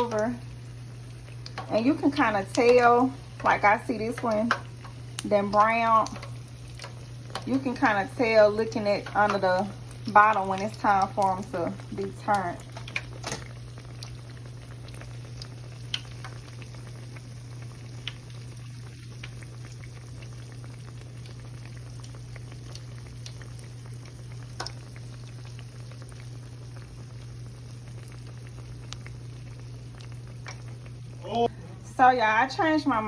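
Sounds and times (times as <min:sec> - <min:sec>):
oil popping: 0:00.0 - 0:31.5
deep-frying oil sizzling: 0:00.0 - 0:33.0.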